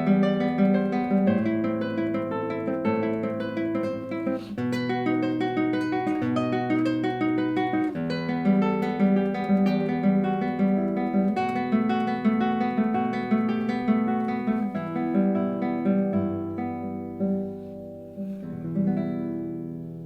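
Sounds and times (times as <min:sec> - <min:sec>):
classical guitar arpeggios: 0:00.0 - 0:20.0.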